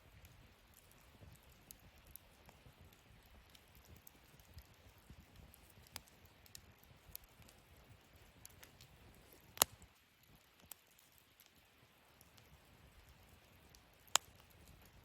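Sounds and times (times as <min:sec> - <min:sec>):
small wood fire crackling: 0:00.0 - 0:15.0
sharp pops from fire: 0:00.1 - 0:15.0.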